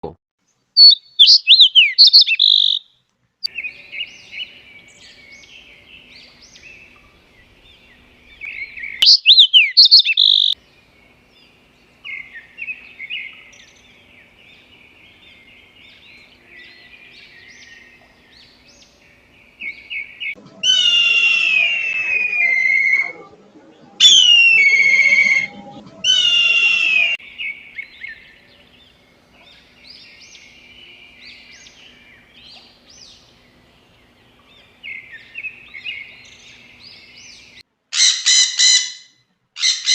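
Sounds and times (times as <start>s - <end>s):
birds chirping and singing: 0.8s - 2.8s, 3.4s - 39.0s, 39.6s - 39.9s.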